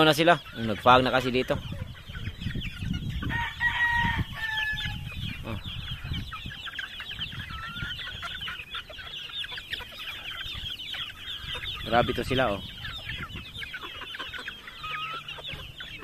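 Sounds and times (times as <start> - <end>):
chicks peeping and chirping: 0.0 - 16.0.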